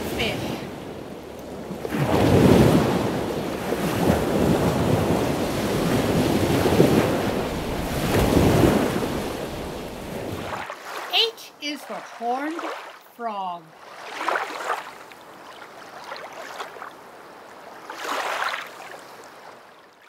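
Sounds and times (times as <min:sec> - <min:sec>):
ocean waves washing: 0:00.0 - 0:19.9.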